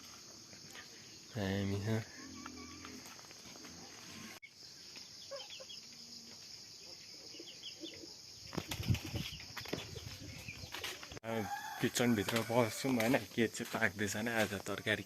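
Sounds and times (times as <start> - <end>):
high chirring of insects: 0.0 - 15.0.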